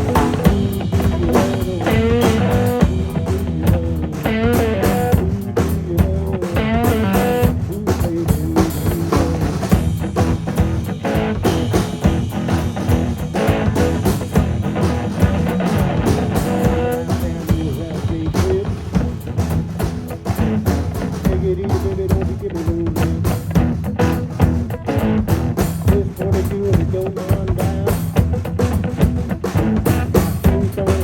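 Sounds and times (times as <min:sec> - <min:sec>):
electric guitar lead: 0:00.0 - 0:07.7, 0:08.8 - 0:31.0
bass guitar: 0:00.0 - 0:31.0
drum kit beat: 0:00.0 - 0:31.0.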